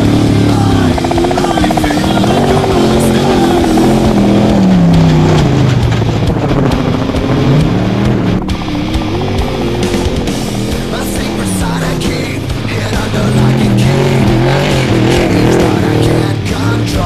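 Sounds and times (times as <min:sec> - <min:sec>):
background music: 0:00.0 - 0:17.0
race truck engines running hard: 0:00.0 - 0:17.0.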